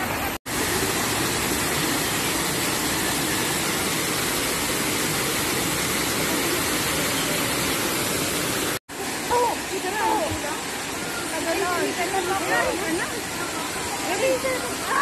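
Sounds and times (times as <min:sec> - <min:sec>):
waterfall rushing over rocks: 0:00.0 - 0:15.0.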